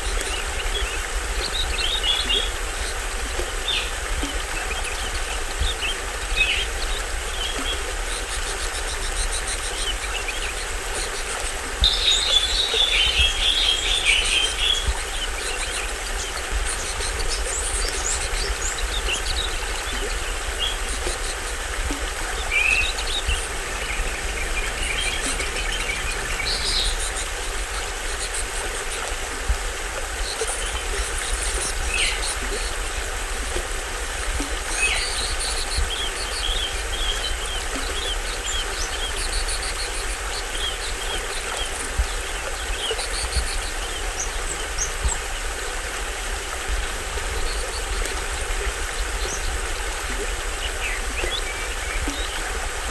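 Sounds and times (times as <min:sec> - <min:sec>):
birds chirping: 0:00.0 - 0:45.7, 0:46.5 - 0:52.9
small waterfall splashing: 0:00.0 - 0:52.9.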